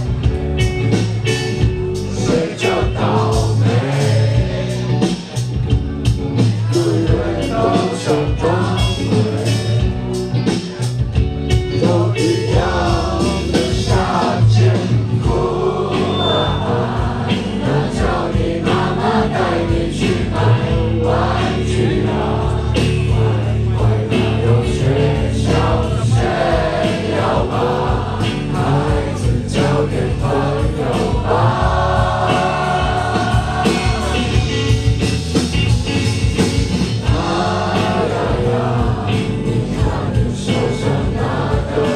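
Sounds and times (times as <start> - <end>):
heavy bass: 0.0 - 41.9
rock band playing live: 0.0 - 41.9.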